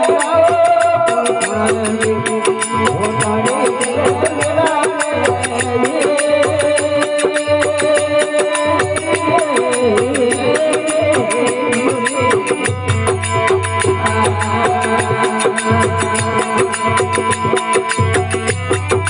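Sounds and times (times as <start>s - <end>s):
fast clicking percussion: 0.0s - 19.0s
hand drum beat: 0.0s - 19.0s.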